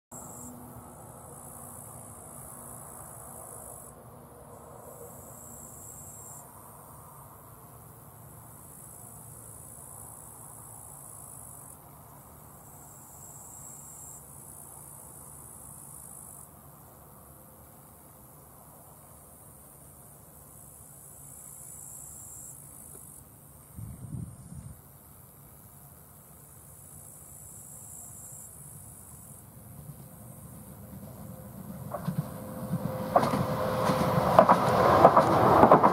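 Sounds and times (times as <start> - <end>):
crickets chirring: 0.1 - 35.9
lower cricket song: 0.1 - 35.9.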